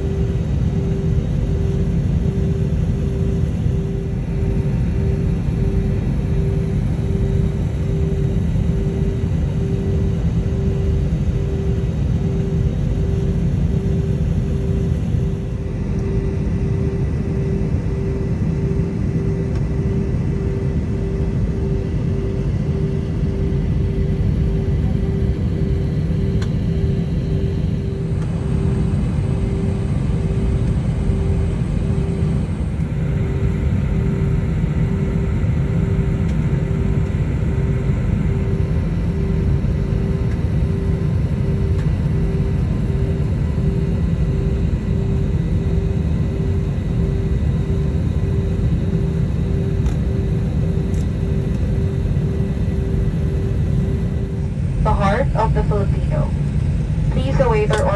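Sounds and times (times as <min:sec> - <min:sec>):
jet engines rumbling in cabin: 0:00.0 - 0:57.9.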